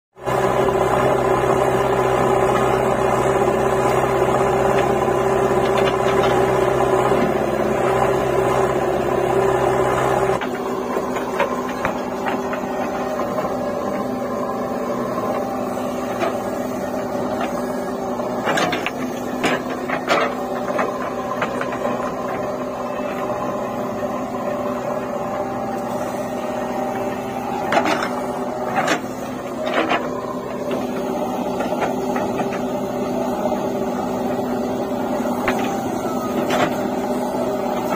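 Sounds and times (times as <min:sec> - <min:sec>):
diesel engine running: 0:00.2 - 0:37.9.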